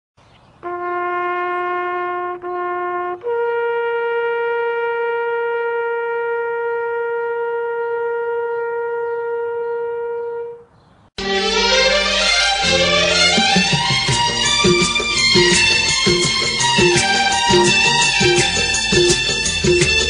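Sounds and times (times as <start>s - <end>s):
horn-like wind instrument notes: 0.6s - 20.0s.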